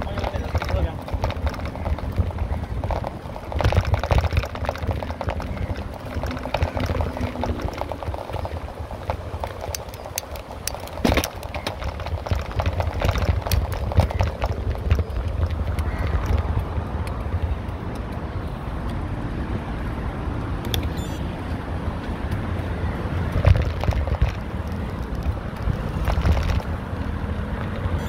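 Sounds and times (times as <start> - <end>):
bicycle rattling and clicking: 0.0 - 28.0
wind rumbling on microphone: 0.0 - 28.0.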